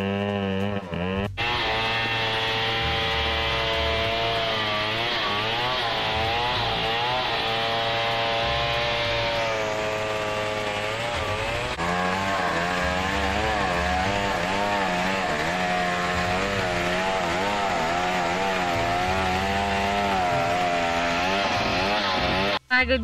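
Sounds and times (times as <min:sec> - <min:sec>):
chainsaw cutting wood: 0:00.0 - 0:22.6.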